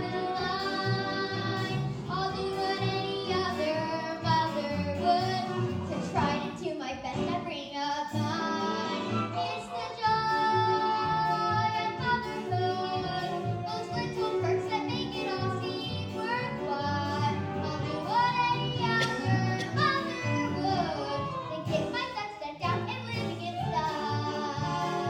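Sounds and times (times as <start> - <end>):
children singing: 0.0 - 6.6, 8.1 - 22.2
instrumental backing music: 0.0 - 25.0.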